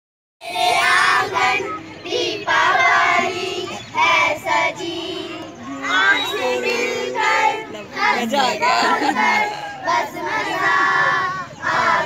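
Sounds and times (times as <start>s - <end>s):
girls singing together: 0.4s - 12.0s.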